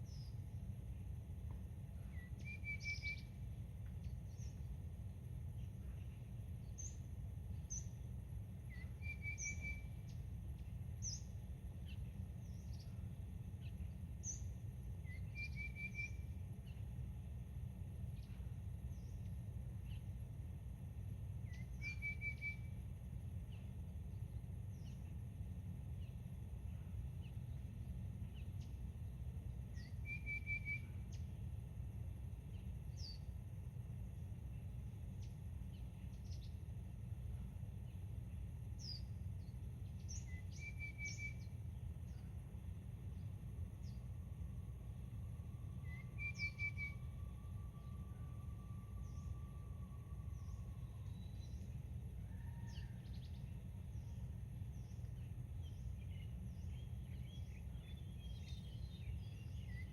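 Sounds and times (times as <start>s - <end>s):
steady low rumble: 0.0s - 9.0s, 9.8s - 15.4s, 16.1s - 21.8s, 22.6s - 30.1s, 30.8s - 59.9s.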